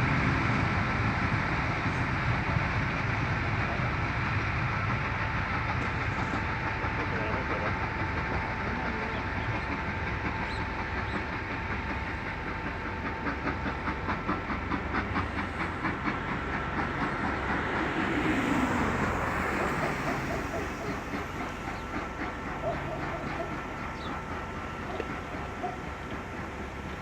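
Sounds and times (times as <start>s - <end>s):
steam train passing: 0.0s - 27.0s.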